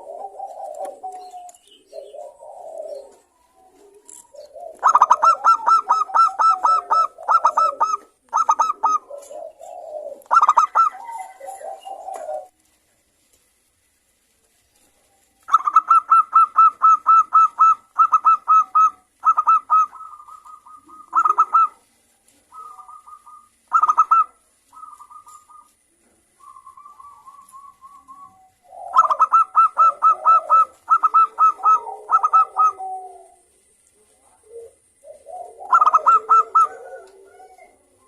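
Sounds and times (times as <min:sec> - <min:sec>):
doves cooing: 0:00.0 - 0:12.7, 0:14.8 - 0:38.0.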